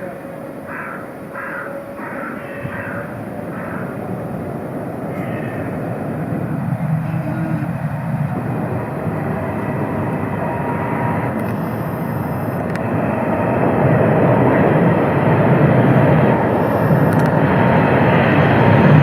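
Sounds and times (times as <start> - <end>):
tram rumbling past: 0.0 - 19.0.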